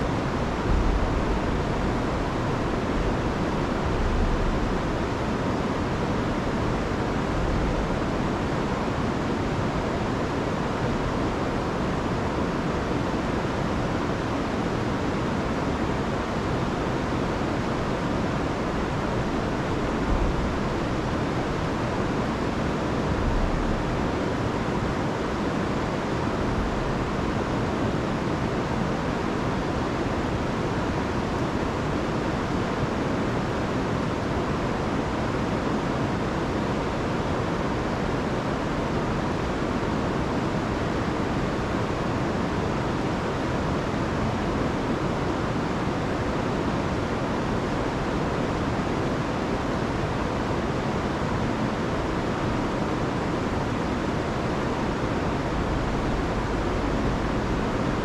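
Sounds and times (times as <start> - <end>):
river rushing over falls: 0.0 - 58.0.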